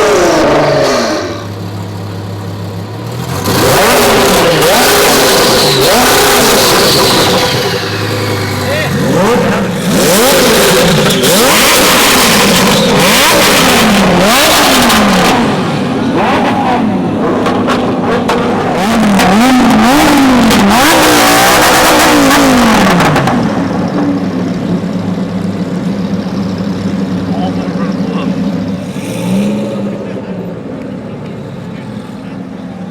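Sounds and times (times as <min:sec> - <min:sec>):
car engine idling: 0:00.0 - 0:32.9
sports car engine revving: 0:00.0 - 0:32.9.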